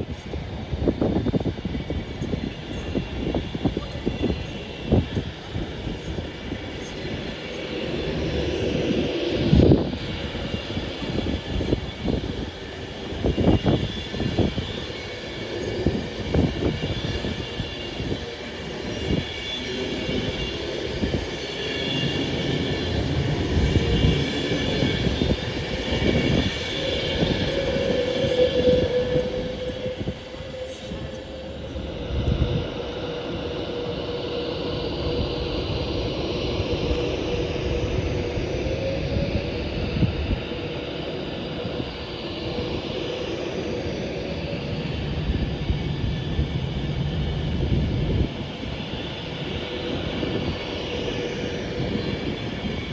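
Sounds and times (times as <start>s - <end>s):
high whine: 0.0s - 52.9s
train rumbling: 0.0s - 52.9s.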